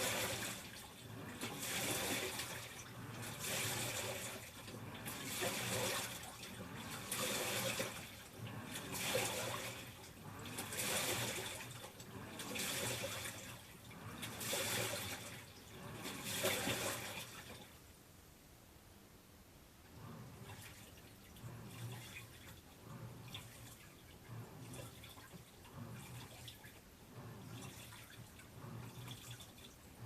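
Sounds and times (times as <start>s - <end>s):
washing machine sloshing water: 0.0s - 17.9s, 19.8s - 30.0s.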